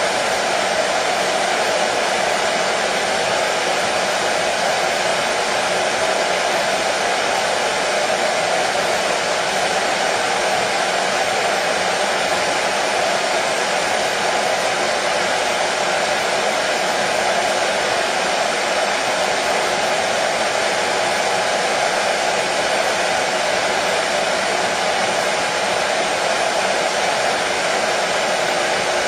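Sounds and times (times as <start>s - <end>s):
hair dryer running: 0.0s - 29.0s.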